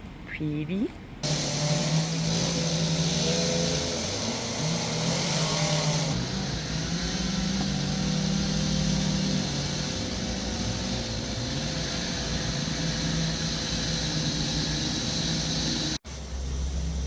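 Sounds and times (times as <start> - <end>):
chainsaw engines revving: 1.2 - 16.0.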